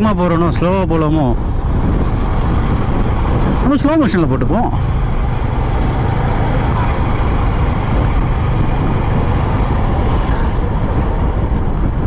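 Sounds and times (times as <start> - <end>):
wind rush on microphone: 0.0 - 12.0
motorcycle engine running: 1.4 - 12.0.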